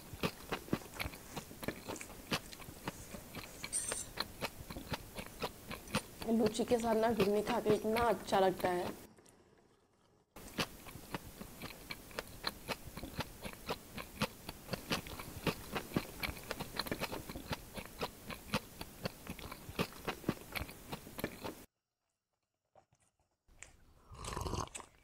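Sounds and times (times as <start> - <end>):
close chewing with crunches: 0.0 - 21.7, 22.8 - 25.0.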